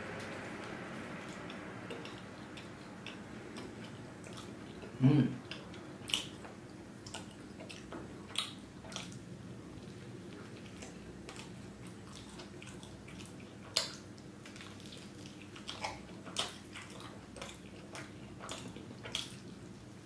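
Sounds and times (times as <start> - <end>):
steady low hum: 0.0 - 20.0
person chewing wetly: 0.1 - 20.0.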